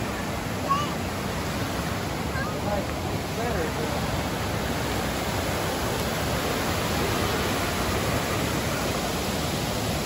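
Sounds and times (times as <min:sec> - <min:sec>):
waterfall and rapids rushing: 0:00.0 - 0:10.0.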